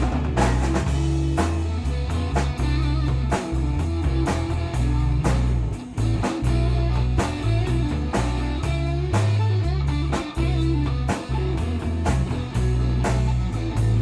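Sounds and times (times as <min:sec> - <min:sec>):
bass line: 0:00.0 - 0:14.0
drum kit and cymbals: 0:00.0 - 0:14.0
electric guitars: 0:00.0 - 0:14.0.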